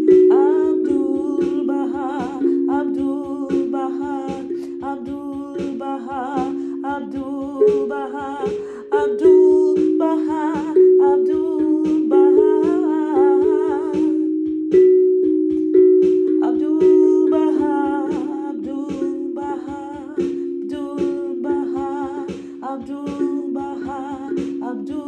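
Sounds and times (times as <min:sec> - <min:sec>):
woman humming a melody: 0:00.0 - 0:14.2, 0:16.4 - 0:25.0
steel tongue drum notes ringing: 0:00.0 - 0:25.0.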